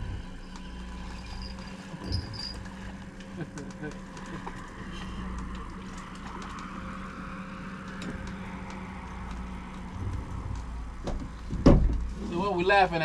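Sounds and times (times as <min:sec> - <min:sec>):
electric trolling motor humming: 0:00.0 - 0:12.2
hiss of water and wind: 0:00.0 - 0:13.0.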